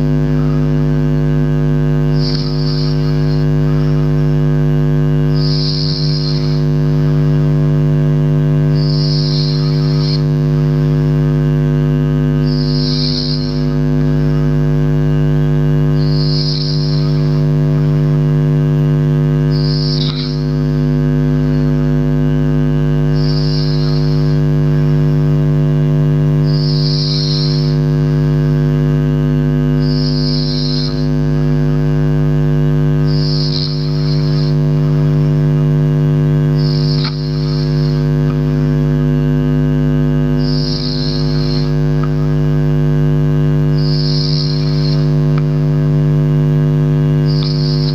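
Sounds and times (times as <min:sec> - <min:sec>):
steady droning hum: 0:00.0 - 0:47.9.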